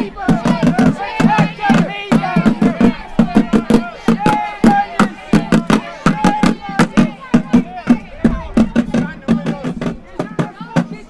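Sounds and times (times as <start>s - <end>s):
crowd shouting and chanting: 0.0s - 11.0s
drums beaten in fast rhythm: 0.0s - 11.0s.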